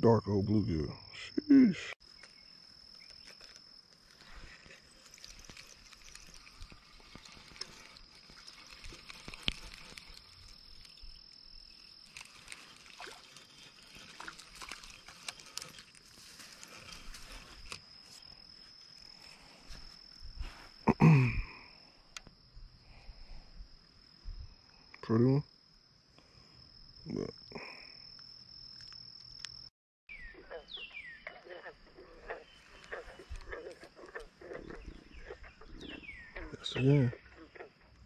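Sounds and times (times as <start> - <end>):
high-pitched insect drone: 0.4 - 25.4, 26.4 - 38.0.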